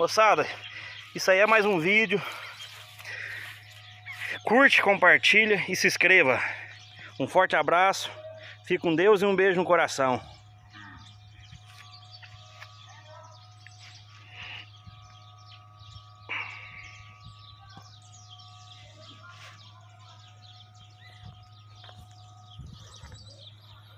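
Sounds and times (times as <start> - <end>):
birds chirping and calling: 0.0 - 23.9
steady low hum: 0.0 - 23.9.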